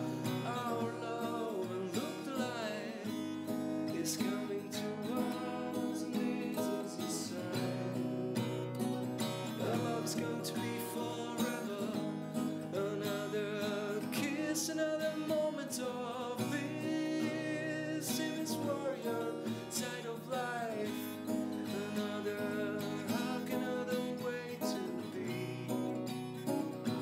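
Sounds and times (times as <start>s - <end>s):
strummed acoustic guitar music: 0.0s - 27.0s.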